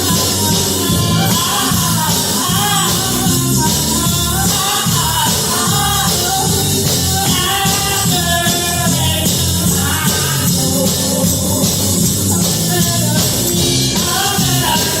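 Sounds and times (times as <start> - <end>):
person singing over a band: 0.0 - 15.0
steady bass line: 0.0 - 15.0.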